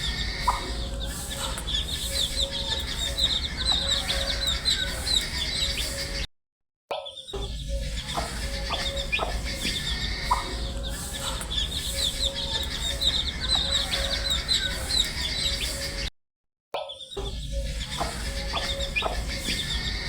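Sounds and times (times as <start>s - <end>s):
baby chicks peeping: 0.0s - 6.2s, 7.6s - 16.1s, 17.5s - 20.0s.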